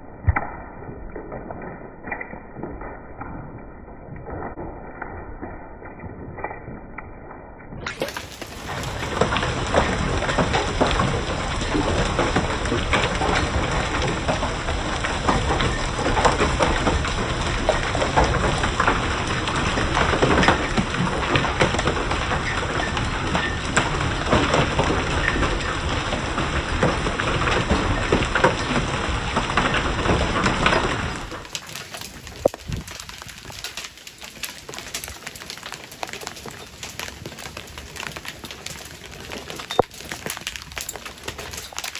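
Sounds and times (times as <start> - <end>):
rain: 7.8 - 41.9
hail on wooden deck: 8.0 - 41.9.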